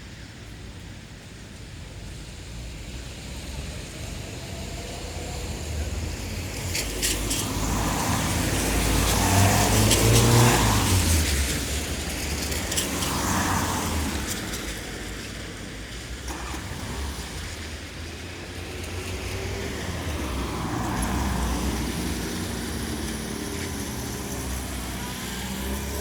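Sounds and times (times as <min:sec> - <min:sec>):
tyres hissing on wet asphalt: 0:00.0 - 0:26.0
car engine rumble: 0:00.9 - 0:26.0.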